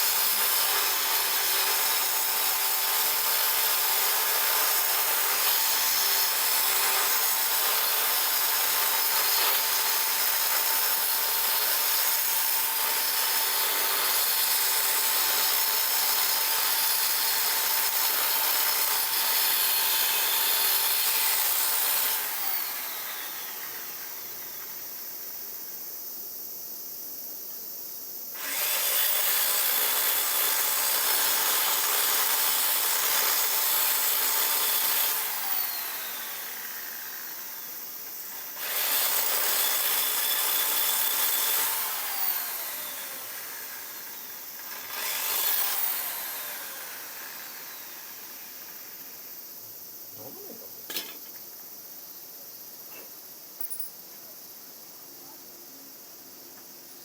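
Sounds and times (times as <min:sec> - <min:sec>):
electric power tool running: 0:00.0 - 0:25.0, 0:28.4 - 0:49.0.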